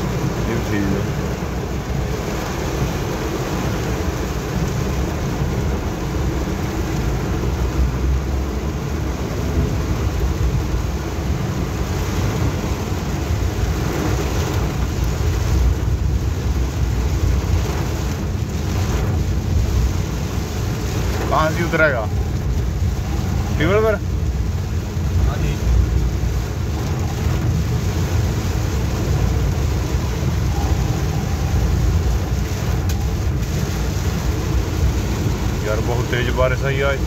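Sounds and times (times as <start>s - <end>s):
car running noise: 0.0s - 37.0s
heavy rain on car roof: 0.0s - 37.0s.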